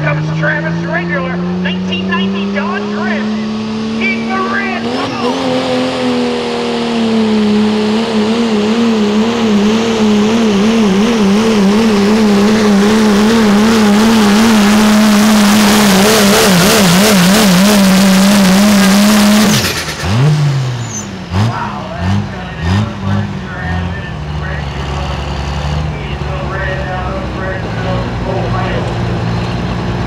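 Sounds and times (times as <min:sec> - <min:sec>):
truck engine at full throttle: 0:00.0 - 0:30.0.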